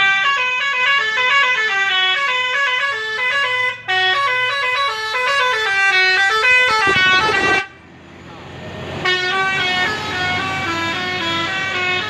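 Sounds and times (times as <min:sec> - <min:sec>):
bus multi-tone horn melody: 0:00.0 - 0:07.9, 0:09.0 - 0:12.0.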